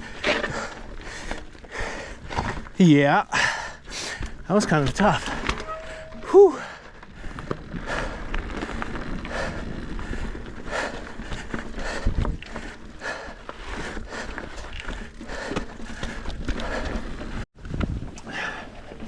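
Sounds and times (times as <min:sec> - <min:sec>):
heavy breathing: 0:00.0 - 0:04.4, 0:05.4 - 0:17.4
bike rattling on dirt trail: 0:00.0 - 0:19.0.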